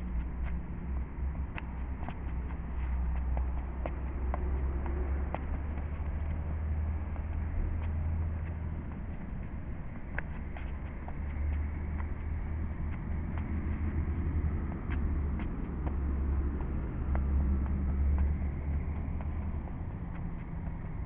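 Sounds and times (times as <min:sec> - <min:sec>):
low outdoor rumble: 0:00.0 - 0:21.0
sneakers tapping and scuffing: 0:00.0 - 0:21.0.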